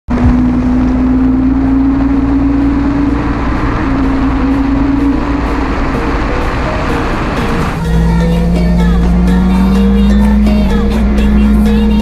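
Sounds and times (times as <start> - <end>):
motorcycle engine running: 0.1 - 12.0
wind rumble: 0.1 - 12.0.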